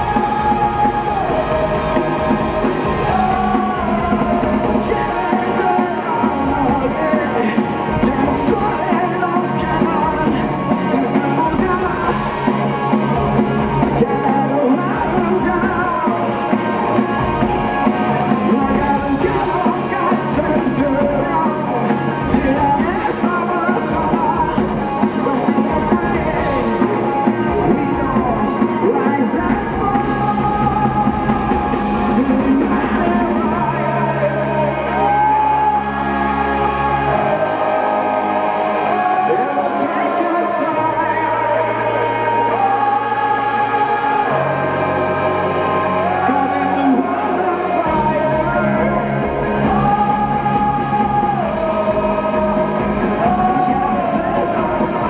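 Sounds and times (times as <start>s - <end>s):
drum kit: 0.0s - 55.0s
electric guitar: 0.0s - 55.0s
person singing: 0.0s - 55.0s.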